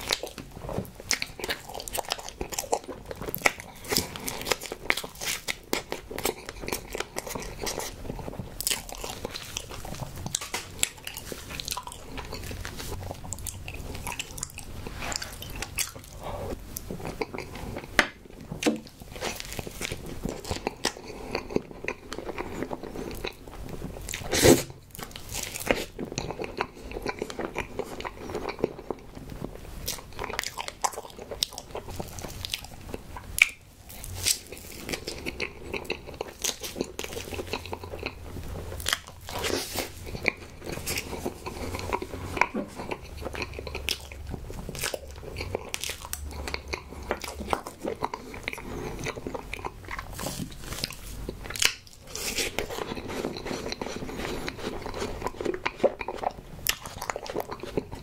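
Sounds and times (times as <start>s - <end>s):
close chewing mouth clicks: 0.0s - 18.2s, 18.9s - 58.0s.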